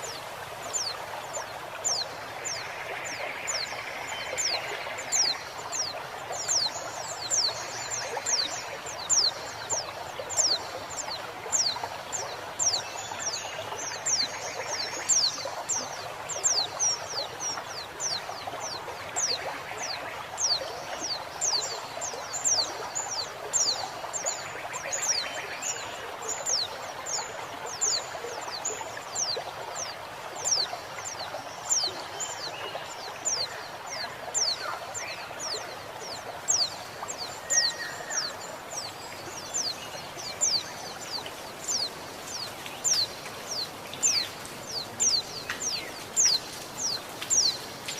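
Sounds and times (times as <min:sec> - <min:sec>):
flowing water rushing: 0:00.0 - 0:47.9.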